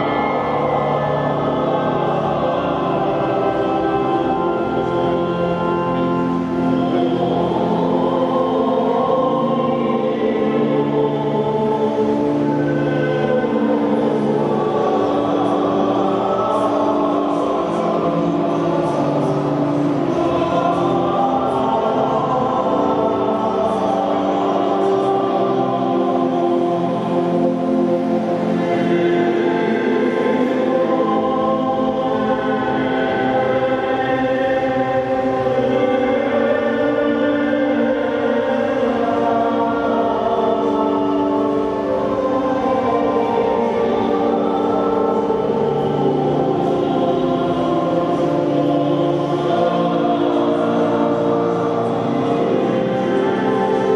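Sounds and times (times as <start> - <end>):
choir singing held chords: 0.0 - 53.9.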